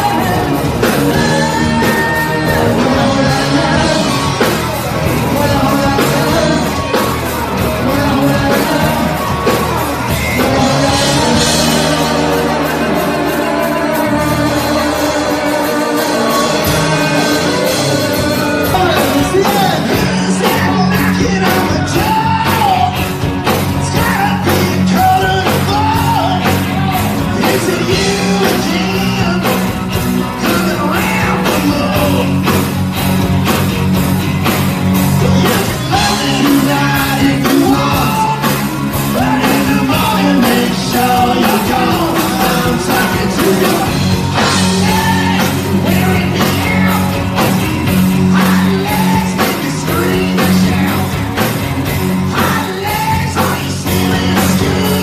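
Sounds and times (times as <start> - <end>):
drum kit beat: 0.0 - 55.0
electric guitars: 0.0 - 55.0.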